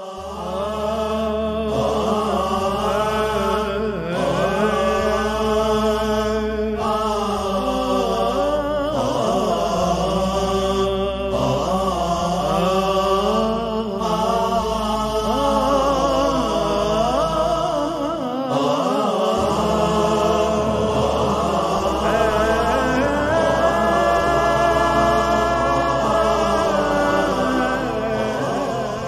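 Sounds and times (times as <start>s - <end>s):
low steady drone: 0.0s - 29.0s
person chanting melodic phrases: 0.0s - 29.0s.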